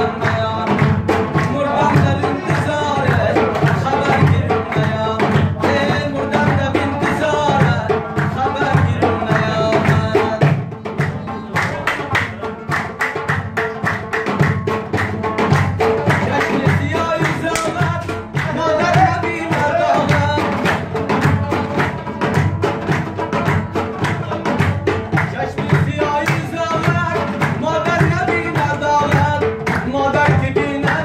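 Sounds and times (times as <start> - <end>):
person singing: 0.0 - 13.9, 15.8 - 31.0
hand-clapping: 0.0 - 31.0
lute strummed fast: 0.0 - 31.0.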